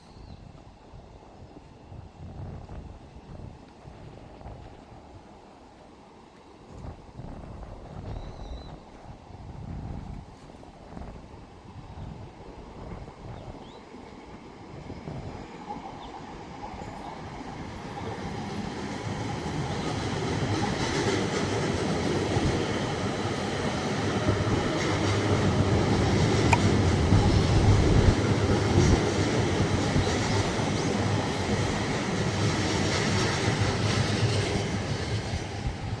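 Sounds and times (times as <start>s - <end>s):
train passing at speed: 0.0s - 36.0s.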